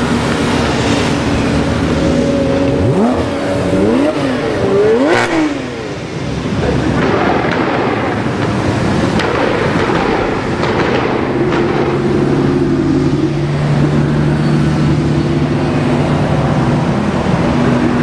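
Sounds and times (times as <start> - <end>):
sports car engines running: 0.0 - 18.0.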